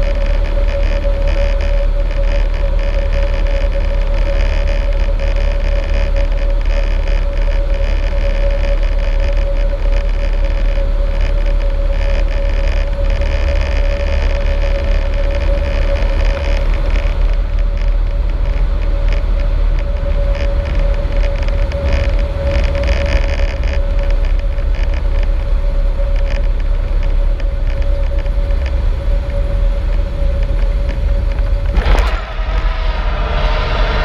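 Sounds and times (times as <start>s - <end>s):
heavy wind: 0.0s - 34.0s
rolling rumble: 0.0s - 34.0s.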